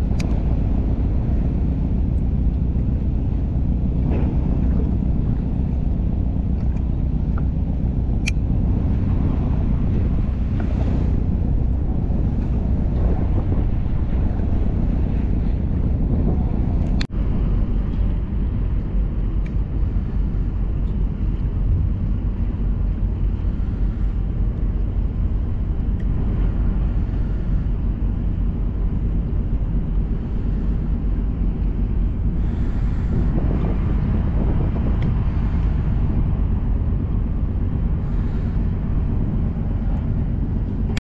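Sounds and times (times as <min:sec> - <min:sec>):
outboard motor droning: 0:00.0 - 0:41.0
wind rushing on microphone: 0:00.0 - 0:41.0.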